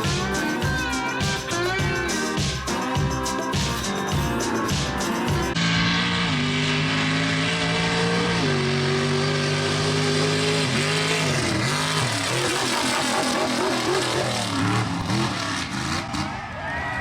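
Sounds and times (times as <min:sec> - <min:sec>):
truck engine revving: 0:00.0 - 0:16.6.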